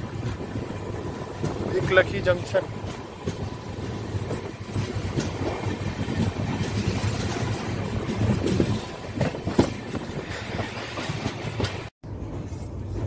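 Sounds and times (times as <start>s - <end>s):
wheels clacking over rail joints: 0.0s - 12.7s
train coach rumble: 0.0s - 13.0s.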